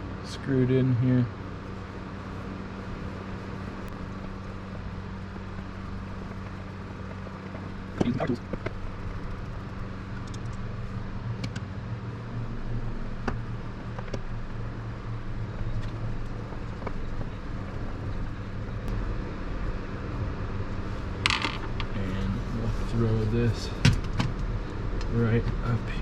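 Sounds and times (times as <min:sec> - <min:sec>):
computer rigs humming with fans: 0:00.0 - 0:26.0.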